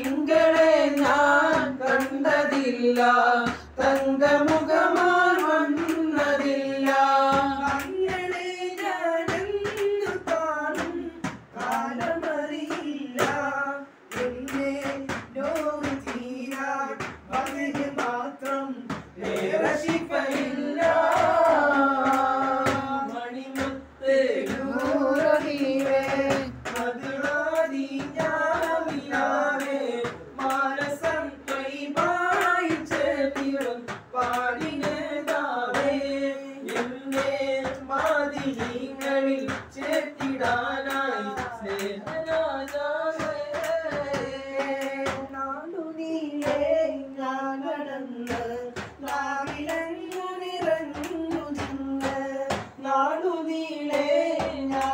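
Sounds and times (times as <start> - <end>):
hand clapping: 0.0 - 47.0, 48.1 - 54.9
man singing devotional song: 0.0 - 54.9.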